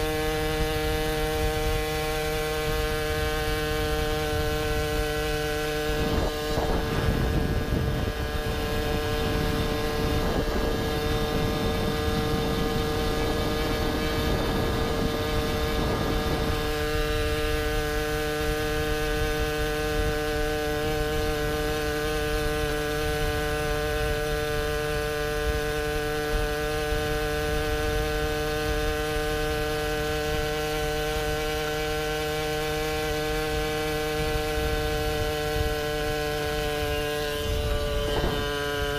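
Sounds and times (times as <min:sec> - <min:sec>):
moped engine cruising: 0:00.0 - 0:38.9
wind and road noise: 0:00.0 - 0:38.9.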